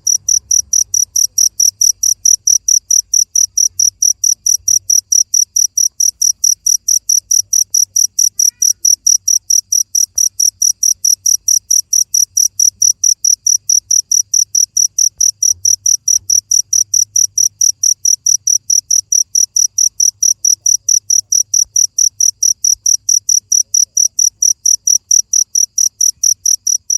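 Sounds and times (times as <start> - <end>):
cricket chirping: 0.0 - 26.9.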